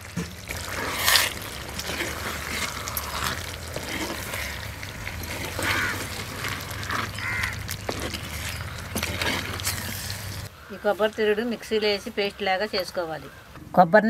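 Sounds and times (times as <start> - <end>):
birds calling: 0.0 - 13.6.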